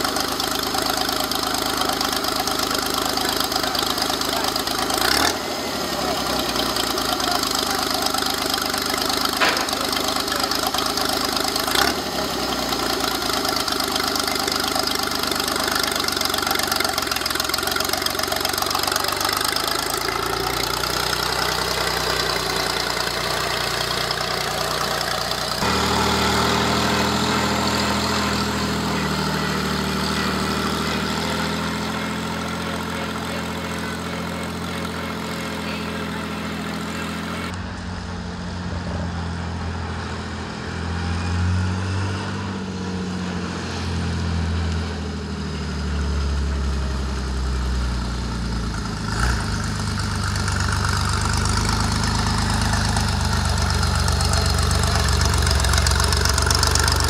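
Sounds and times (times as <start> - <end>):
tractor engine idling: 0.0 - 40.8, 44.6 - 57.0
steady engine note: 0.0 - 57.0.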